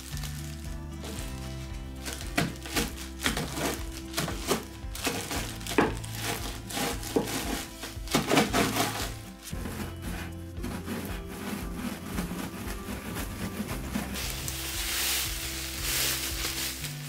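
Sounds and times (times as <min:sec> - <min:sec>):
biscuits crunching in plastic bag: 0:00.0 - 0:09.9, 0:11.4 - 0:17.0
background music sustained notes: 0:00.0 - 0:17.0.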